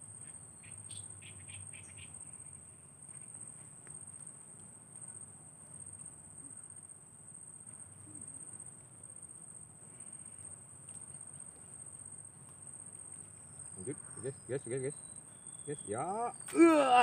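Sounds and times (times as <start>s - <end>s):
insects high-pitched trill: 0.0s - 17.0s.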